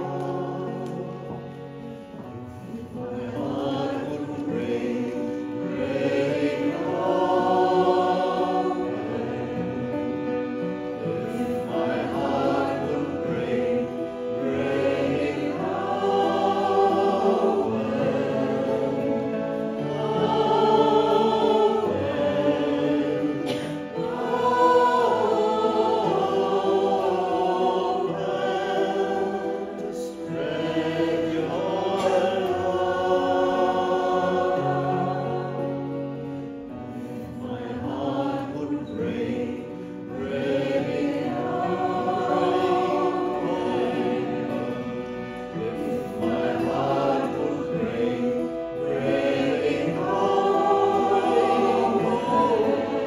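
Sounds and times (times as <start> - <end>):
acoustic guitar: 0.0 - 53.0
harmonium: 0.0 - 53.0.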